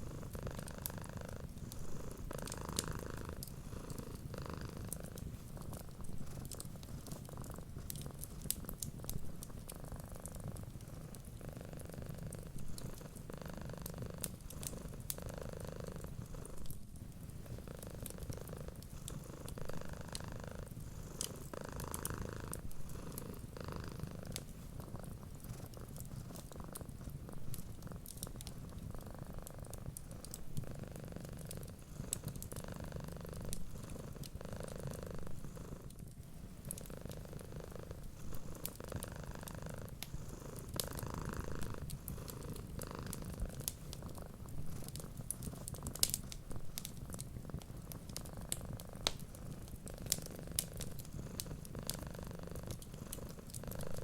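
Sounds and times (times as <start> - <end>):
wood fire crackling: 0.0 - 11.4, 12.1 - 15.2, 15.9 - 54.0
cat purring: 0.0 - 54.0.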